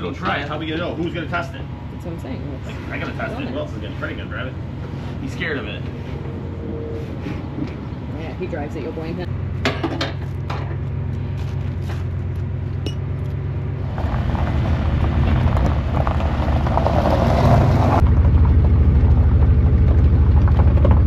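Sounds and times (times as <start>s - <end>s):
truck engine idling and revving: 0.0s - 21.0s.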